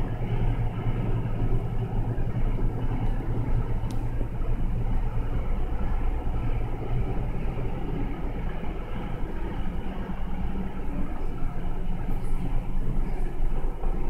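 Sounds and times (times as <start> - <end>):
kitchen machinery hum: 0.0 - 14.0.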